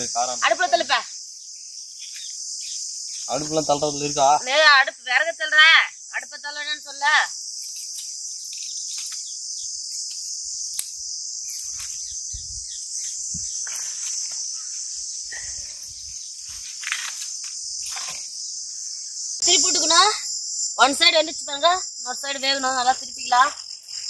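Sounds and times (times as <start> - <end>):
insect chorus droning: 0.0 - 24.0.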